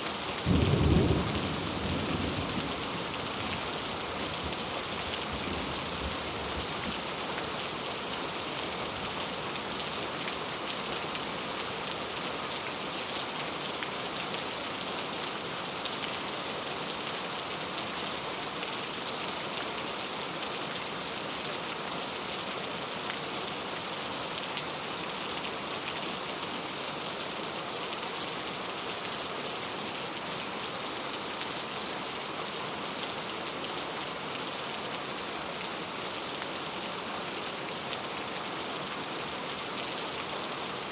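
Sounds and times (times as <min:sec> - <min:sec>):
gentle rain falling: 0:00.0 - 0:40.9.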